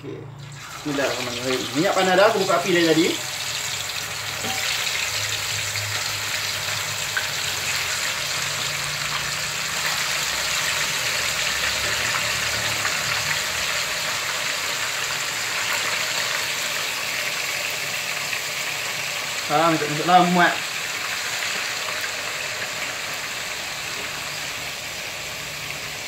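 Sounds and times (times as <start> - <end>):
chicken sizzling in hot oil: 0.4 - 26.0.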